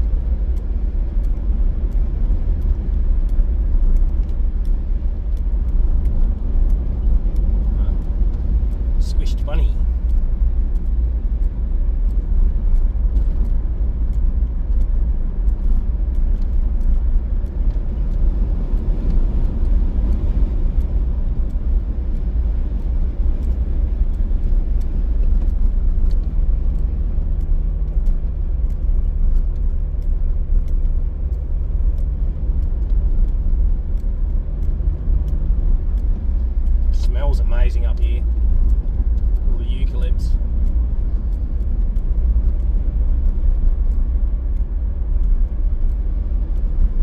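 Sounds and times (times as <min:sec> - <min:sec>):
car driving on road: 0:00.0 - 0:47.0
steady engine hum: 0:00.0 - 0:47.0.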